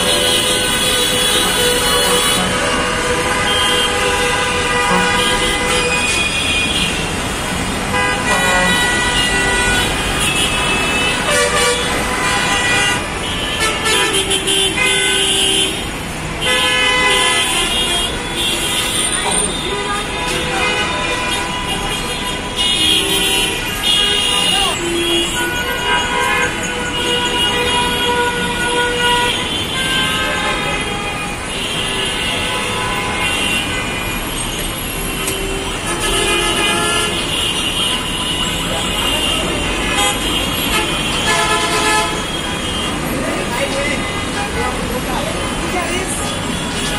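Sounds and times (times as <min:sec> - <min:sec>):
bus and car horns honking: 0:00.0 - 0:46.9
engines rumbling: 0:00.0 - 0:46.9.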